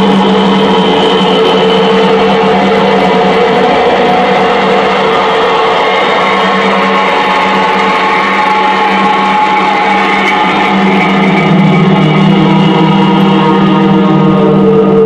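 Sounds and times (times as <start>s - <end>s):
electronic noise drone: 0.0s - 15.0s.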